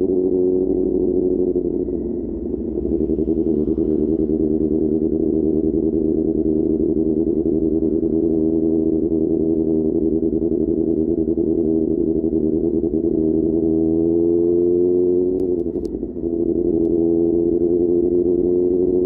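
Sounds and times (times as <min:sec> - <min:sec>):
motorcycle engine while riding: 0:00.0 - 0:19.0.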